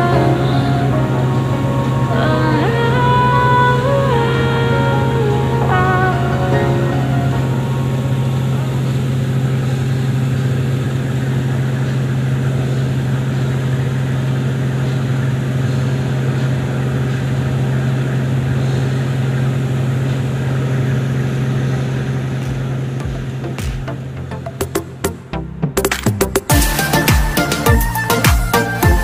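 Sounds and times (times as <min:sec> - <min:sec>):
ship engine droning: 0:00.0 - 0:29.0.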